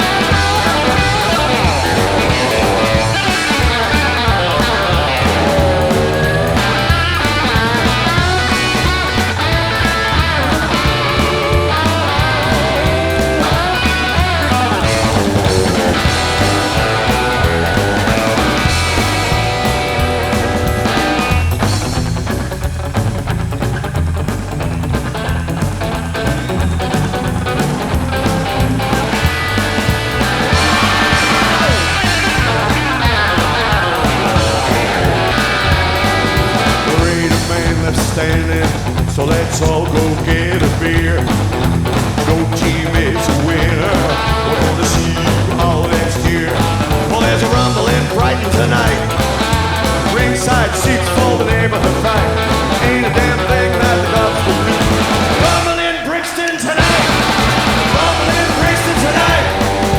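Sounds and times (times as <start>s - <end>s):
upright bass: 0.0s - 56.2s, 56.8s - 59.9s
drums: 0.0s - 59.9s
electric guitar: 0.0s - 59.9s.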